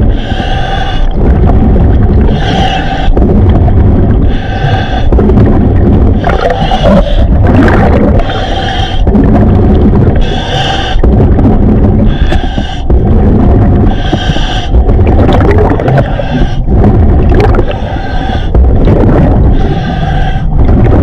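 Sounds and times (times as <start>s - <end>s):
diver breathing through regulator: 0.0s - 21.0s.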